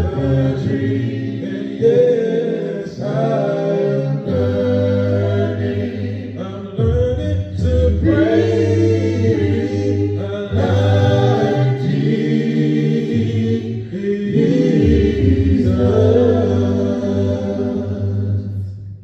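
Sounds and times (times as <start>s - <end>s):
male vocal group singing a cappella: 0.0s - 19.0s.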